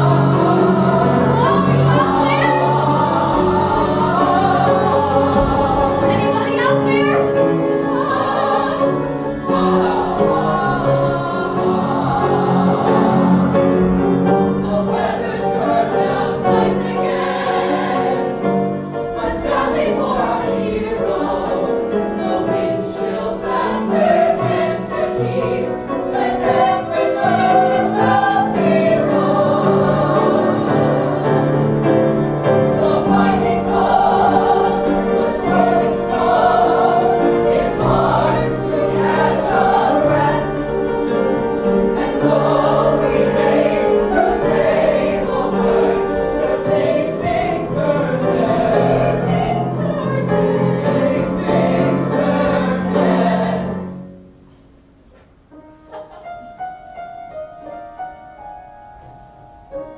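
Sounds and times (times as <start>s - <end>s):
ensemble singing in chorus: 0.0s - 54.4s
instrumental accompaniment: 0.0s - 59.9s.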